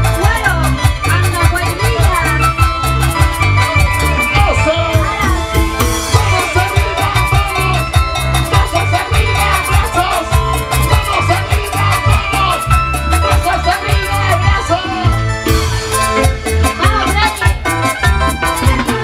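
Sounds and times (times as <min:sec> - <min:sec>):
keyboard: 0:00.0 - 0:19.0
live band dance music: 0:00.0 - 0:19.0
strong bass beat: 0:00.0 - 0:19.0.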